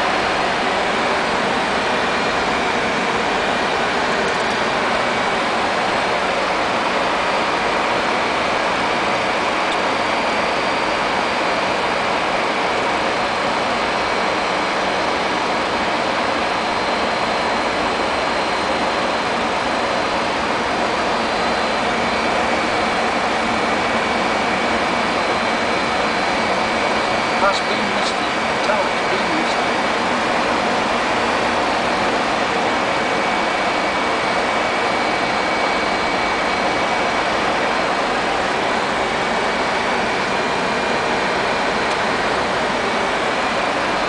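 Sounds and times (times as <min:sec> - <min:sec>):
jetliner cockpit noise: 0:00.0 - 0:44.0.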